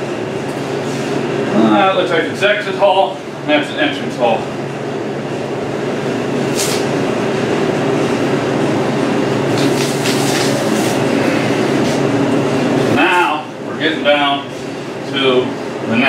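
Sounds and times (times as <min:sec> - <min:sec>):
refrigeration unit humming: 0:00.0 - 0:16.0.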